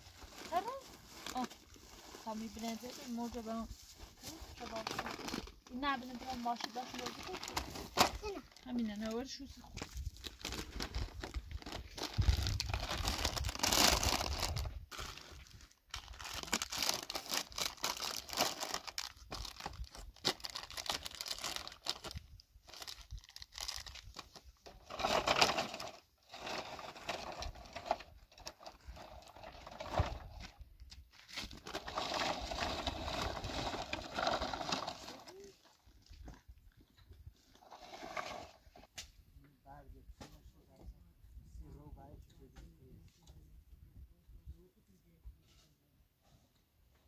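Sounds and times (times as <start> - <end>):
crinkling and rustling: 0.0 - 39.0.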